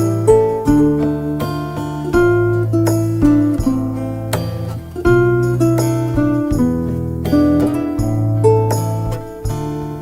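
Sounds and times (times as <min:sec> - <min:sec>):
acoustic guitar strummed and picked: 0:00.0 - 0:10.0.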